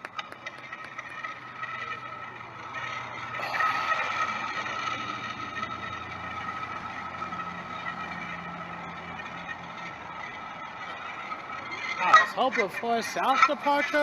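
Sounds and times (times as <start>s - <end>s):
jet airliner engines whining: 0.0s - 12.9s.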